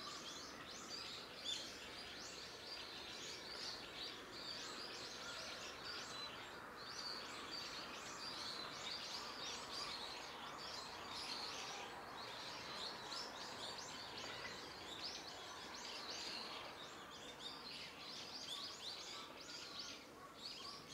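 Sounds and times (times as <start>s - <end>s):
faint outdoor hiss: 0.0s - 20.9s
small birds chirping: 0.0s - 20.9s.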